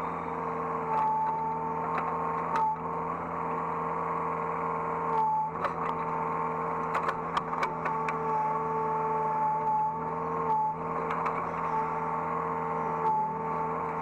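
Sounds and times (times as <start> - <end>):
excavator engine and hydraulic whine: 0.0 - 14.0.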